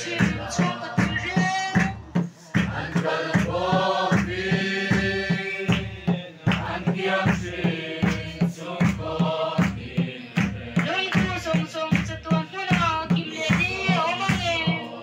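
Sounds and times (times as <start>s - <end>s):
crowd singing a hymn: 0.0s - 11.6s, 13.0s - 15.0s
barrel drum beat: 0.0s - 15.0s.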